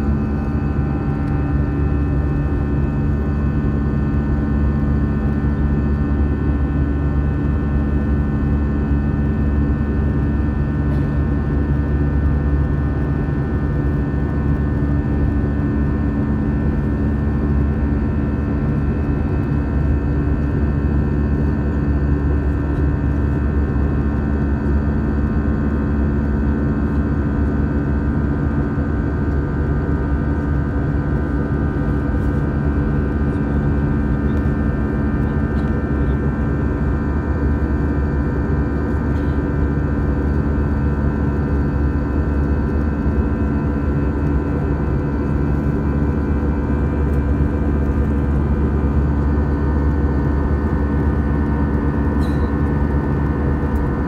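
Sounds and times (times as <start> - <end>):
jet engine drone with whine: 0.0 - 54.0.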